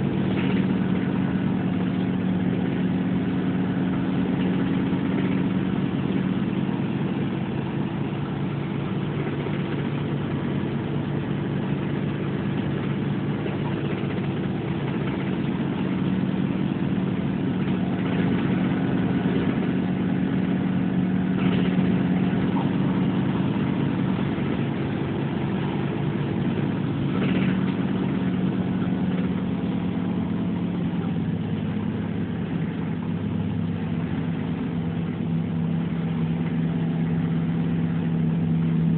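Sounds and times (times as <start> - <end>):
bus engine drone: 0.0 - 38.9
road noise: 0.0 - 38.9.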